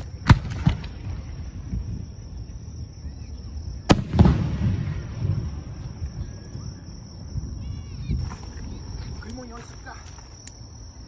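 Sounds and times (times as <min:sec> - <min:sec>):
fireworks bursting: 0:00.0 - 0:10.5.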